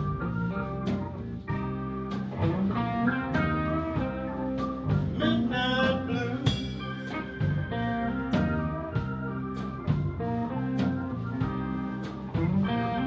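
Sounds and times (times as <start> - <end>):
blues band playing live: 0.0 - 13.0
guitar line: 0.0 - 13.0.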